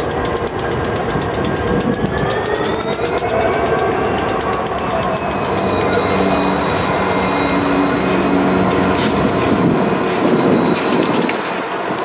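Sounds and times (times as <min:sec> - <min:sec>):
diesel locomotive engine hum: 0:00.0 - 0:12.0
wheels rumbling and clattering on rail: 0:00.0 - 0:12.0.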